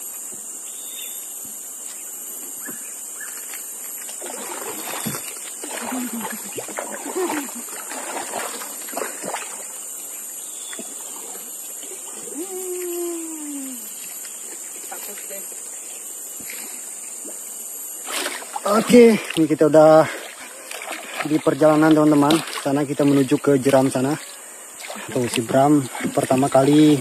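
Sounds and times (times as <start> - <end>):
steady high hiss: 0.0 - 7.8, 8.6 - 27.0
water splashing: 3.4 - 27.0.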